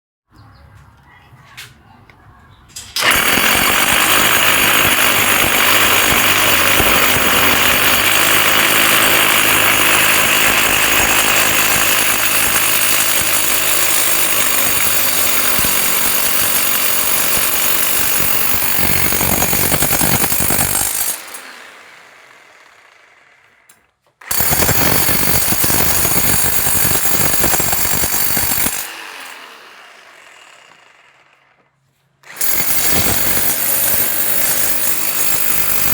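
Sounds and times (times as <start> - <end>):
rotary hammer running: 3.0 - 31.6, 32.2 - 35.9.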